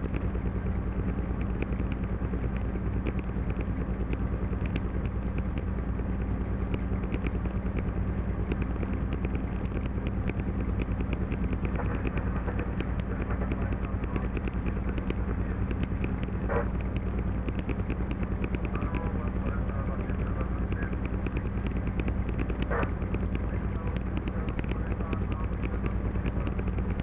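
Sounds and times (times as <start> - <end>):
diesel engine droning: 0.0 - 27.0
fast even ticking: 0.0 - 27.0.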